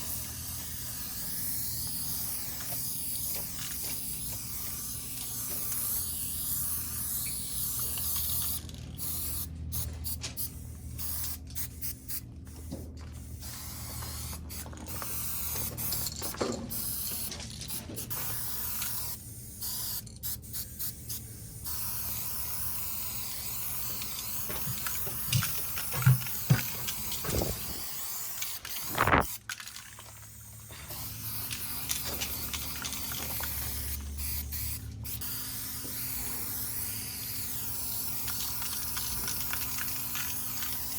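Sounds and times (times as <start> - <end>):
spray paint cans hissing: 0.0 - 40.9.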